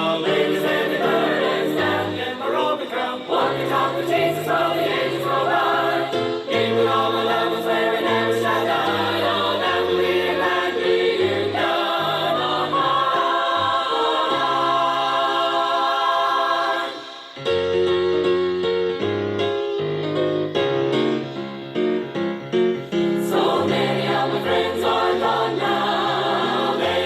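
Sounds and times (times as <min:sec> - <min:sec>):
gospel choir singing: 0:00.0 - 0:17.7, 0:22.9 - 0:27.0.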